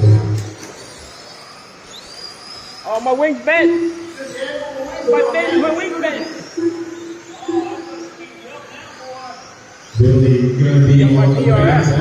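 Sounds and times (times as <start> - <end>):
electric rc cars whining: 0.0 - 12.0
hall noise: 0.0 - 12.0.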